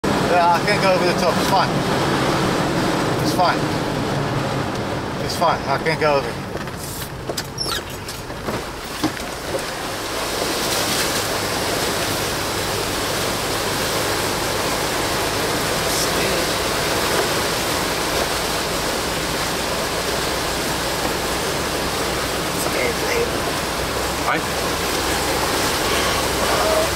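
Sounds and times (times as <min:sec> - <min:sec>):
faint vehicle engine: 0:00.0 - 0:26.9
floodwater rushing: 0:00.0 - 0:26.9.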